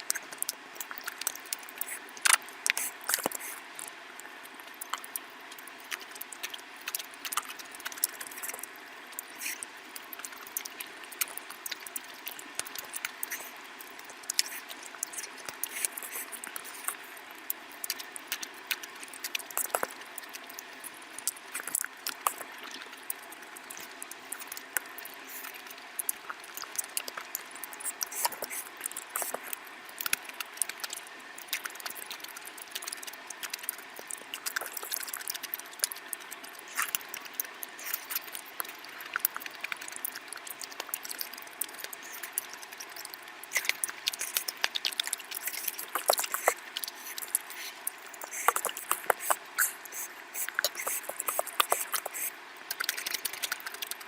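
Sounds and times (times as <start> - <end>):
mouth clicks and smacks: 0.0 - 4.0, 4.8 - 54.0
wet chewing and squishing: 0.0 - 54.0.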